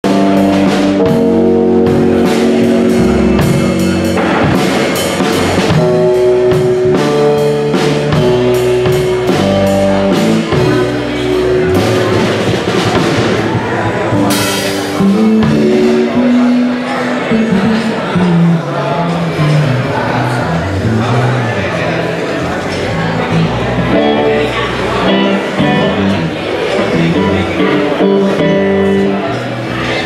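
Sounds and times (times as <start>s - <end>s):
bass guitar: 0.0s - 30.0s
drum kit: 0.0s - 30.0s
guitar: 0.0s - 30.0s.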